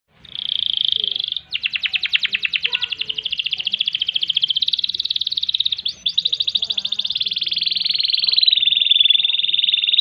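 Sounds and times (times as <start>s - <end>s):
canary singing trills: 0.1s - 10.0s.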